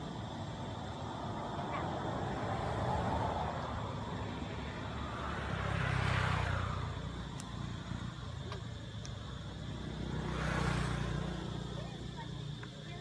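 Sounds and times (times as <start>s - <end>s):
motor vehicle passing: 0.0s - 12.9s
steady traffic hum: 0.0s - 13.0s.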